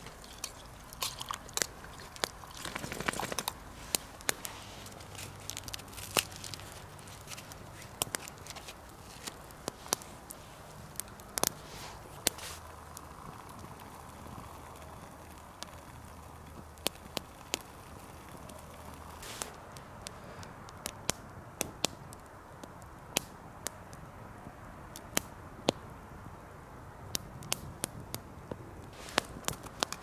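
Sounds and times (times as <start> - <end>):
campfire crackling: 0.0 - 30.0
faint steady hiss: 0.0 - 30.0.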